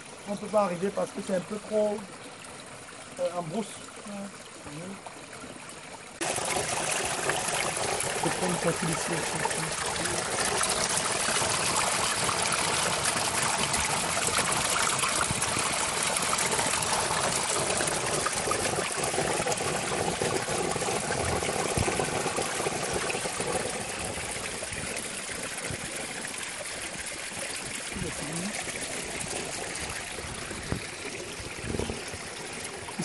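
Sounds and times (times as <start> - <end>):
stream trickling over rocks: 0.0 - 33.0.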